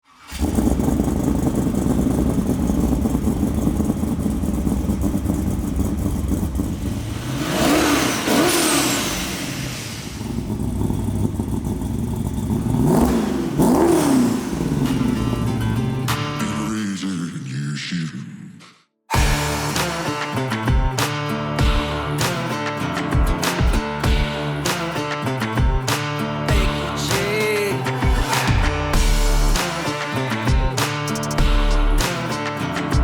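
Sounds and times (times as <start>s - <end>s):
car engine idling and revving: 0.2s - 16.7s, 19.2s - 33.0s.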